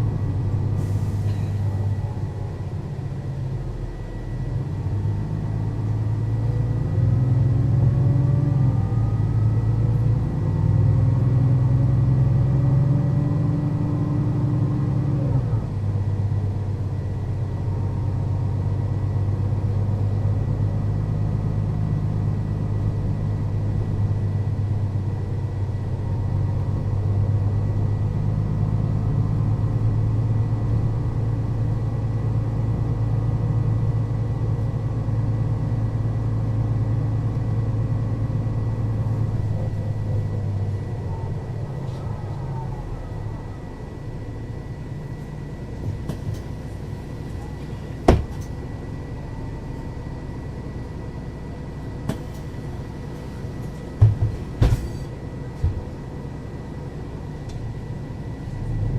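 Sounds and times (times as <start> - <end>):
bus diesel engine driving: 0.0 - 58.9.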